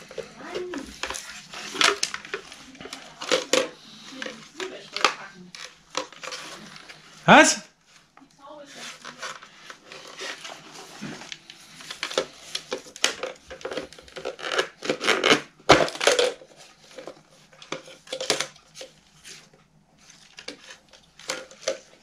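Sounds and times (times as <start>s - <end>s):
plastic clicks and scraping: 0.0s - 7.0s, 8.8s - 22.0s.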